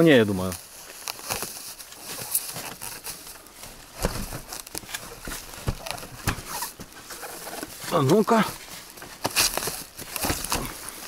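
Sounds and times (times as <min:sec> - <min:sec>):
roofing felt crackling: 0:00.0 - 0:11.0.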